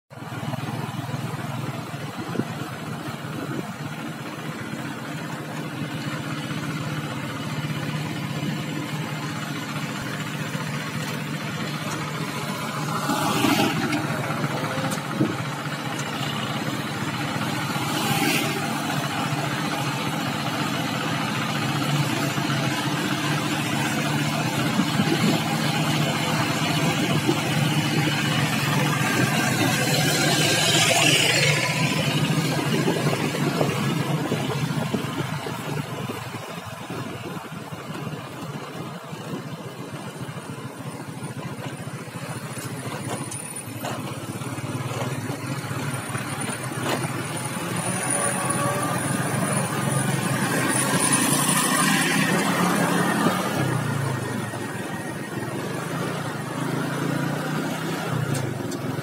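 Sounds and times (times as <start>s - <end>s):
road noise: 0.1s - 59.0s
vehicle engine noise: 0.1s - 59.0s.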